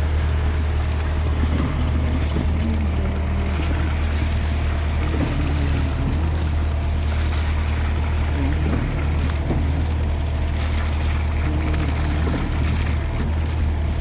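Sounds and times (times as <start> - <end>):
diesel truck engine humming: 0.0 - 14.0.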